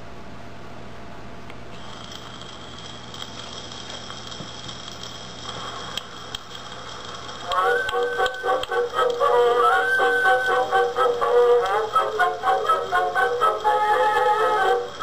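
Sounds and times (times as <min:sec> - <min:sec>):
phonograph surface hiss: 0:00.0 - 0:15.0.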